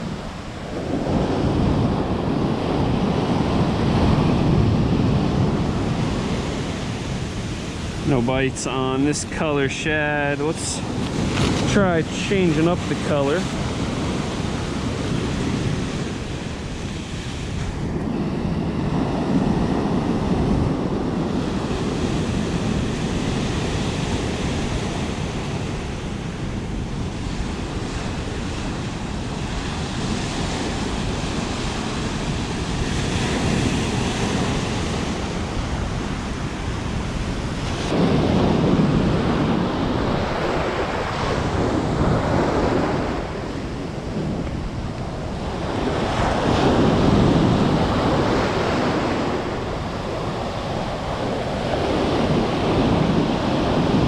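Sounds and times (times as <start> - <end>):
ocean waves crashing on beach: 0.0 - 54.0
wind buffeting microphone: 0.0 - 54.0.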